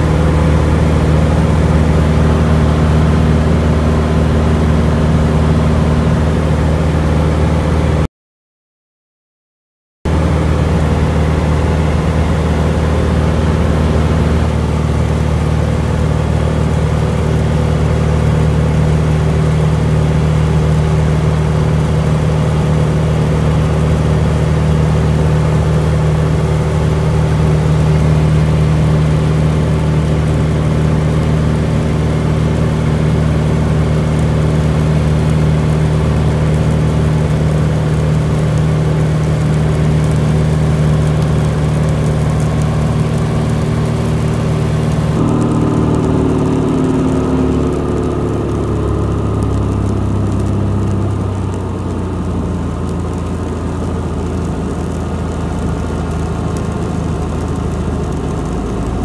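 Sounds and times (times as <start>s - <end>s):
airplane engine drone: 0.0s - 8.1s, 10.1s - 59.0s.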